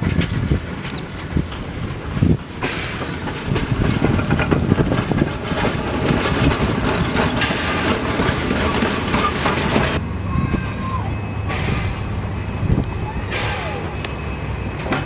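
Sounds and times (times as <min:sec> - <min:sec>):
steam train passing: 0:00.0 - 0:15.0
wheels clattering on rails: 0:00.0 - 0:15.0.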